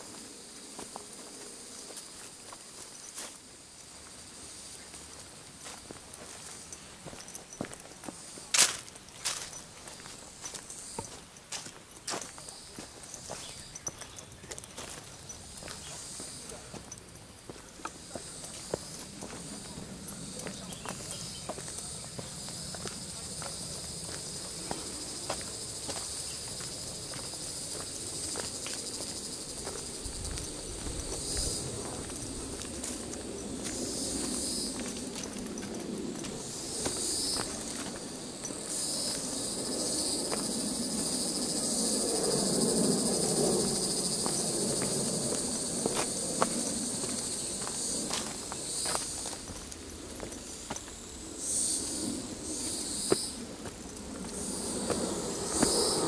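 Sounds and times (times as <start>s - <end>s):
footsteps on dirt path: 0.0s - 41.9s, 42.5s - 52.0s, 52.6s - 56.0s
high-pitched insect chorus: 0.0s - 56.0s.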